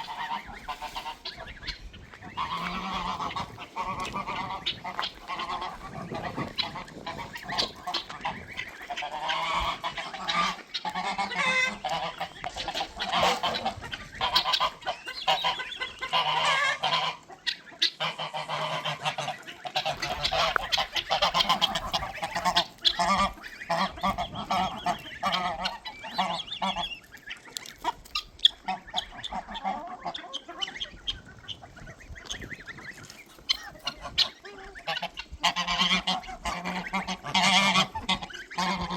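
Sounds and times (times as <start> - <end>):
farm fowl calling: 0.0 - 38.9.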